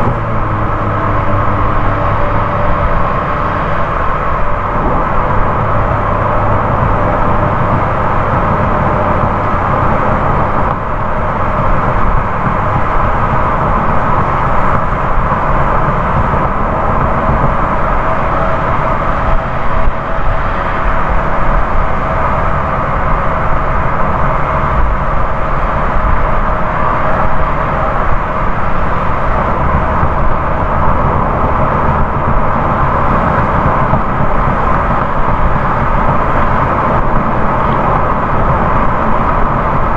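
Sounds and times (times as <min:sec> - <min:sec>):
tyre and road noise: 0:00.0 - 0:39.9
wind: 0:00.0 - 0:39.9.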